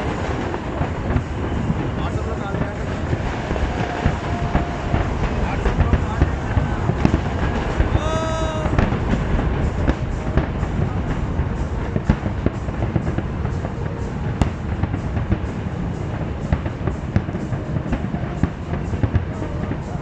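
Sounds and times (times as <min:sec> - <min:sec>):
fireworks cracks and bangs: 0:00.0 - 0:20.0
music: 0:00.0 - 0:20.0.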